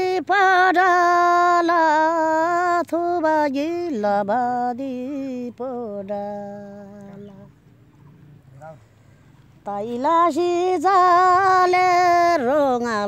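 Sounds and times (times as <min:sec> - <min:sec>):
elderly woman singing unaccompanied: 0:00.0 - 0:07.7, 0:09.5 - 0:13.0.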